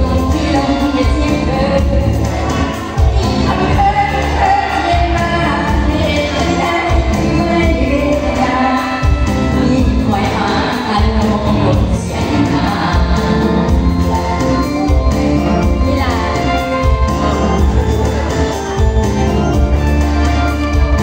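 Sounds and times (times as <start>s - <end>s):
women singing into microphones: 0.0s - 18.0s.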